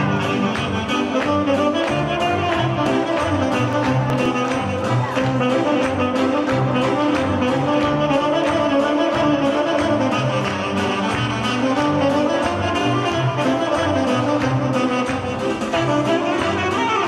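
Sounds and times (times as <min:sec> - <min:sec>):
folk dance music over loudspeaker: 0:00.0 - 0:17.0.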